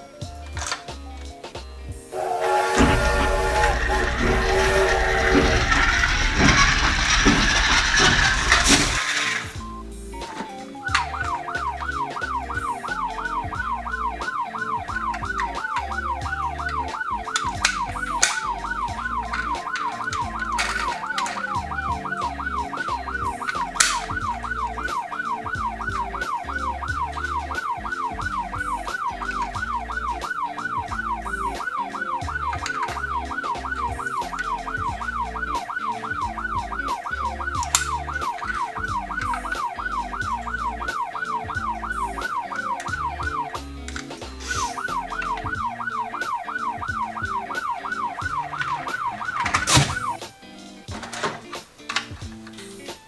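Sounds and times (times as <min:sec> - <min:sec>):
toy siren rising and falling: 0:02.1 - 0:09.6, 0:10.3 - 0:50.2.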